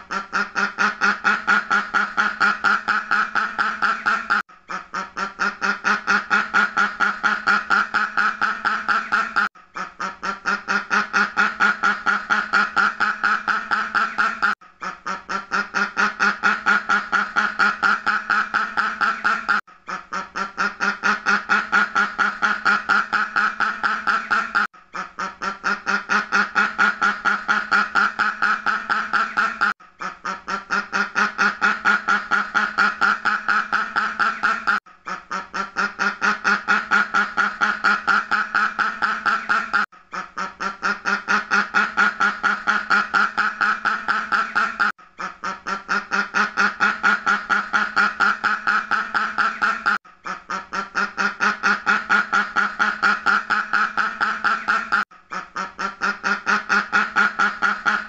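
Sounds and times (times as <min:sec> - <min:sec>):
duck quacking: 0:00.0 - 0:58.0.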